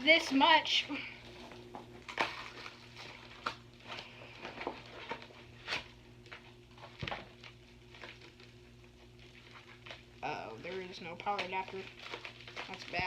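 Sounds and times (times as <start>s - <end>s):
faint steady hum: 0.0s - 13.0s
packing material rustling: 1.2s - 13.0s.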